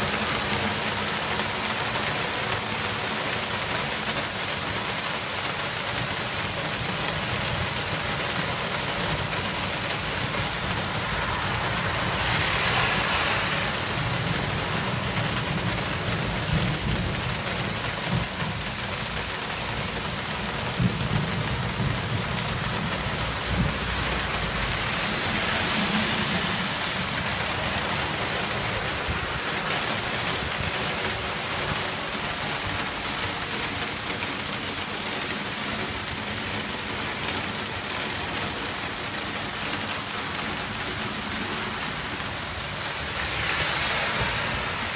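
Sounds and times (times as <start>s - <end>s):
hail falling on stone and gravel: 0.0s - 44.9s.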